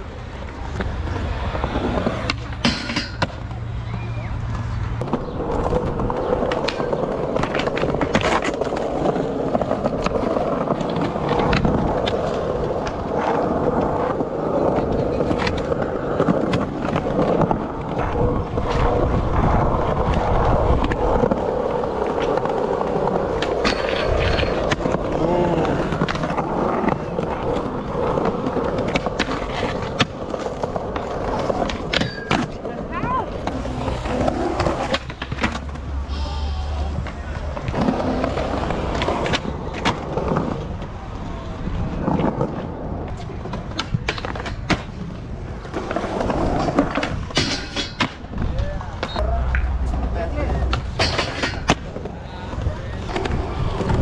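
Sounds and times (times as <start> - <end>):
skateboard wheels rolling on concrete: 0.0 - 54.0
skateboards clacking on ground: 0.0 - 54.0.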